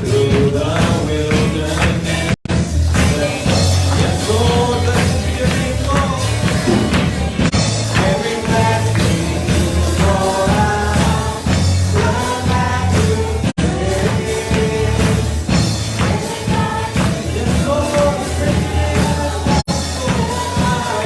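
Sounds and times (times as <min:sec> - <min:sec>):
band with beat and bass: 0:00.0 - 0:21.0
voices singing: 0:00.0 - 0:21.0.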